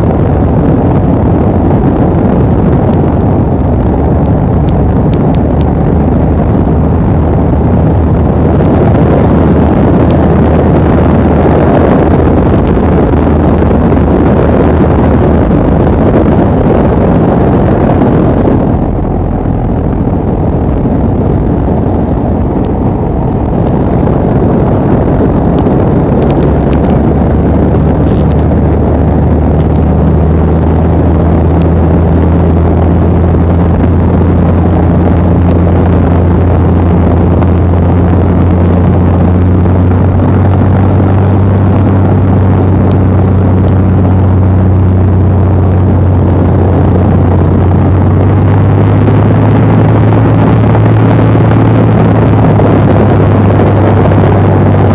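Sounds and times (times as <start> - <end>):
propeller plane engine droning: 0.0 - 54.9
wind rush: 0.0 - 54.9.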